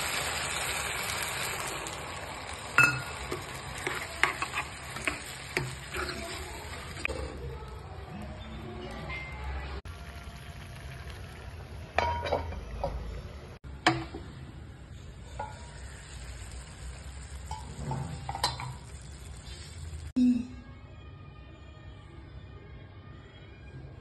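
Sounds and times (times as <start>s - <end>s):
curry simmering and sizzling: 0.0s - 20.2s.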